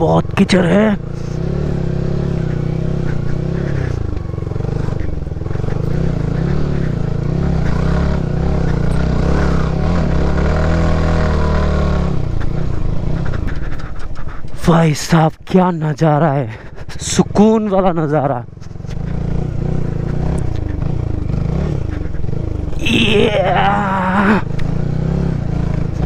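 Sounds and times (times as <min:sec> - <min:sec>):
motorcycle engine running: 0:00.0 - 0:15.0, 0:16.0 - 0:26.0.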